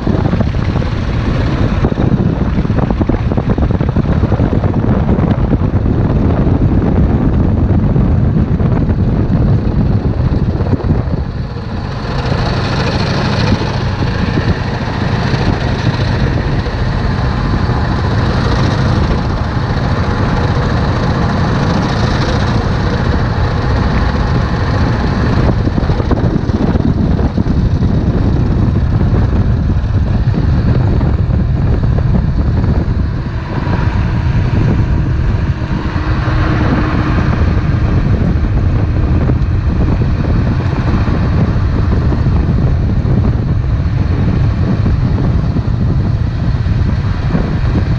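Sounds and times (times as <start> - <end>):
motorcycle engine rumbling: 0.0 - 47.9.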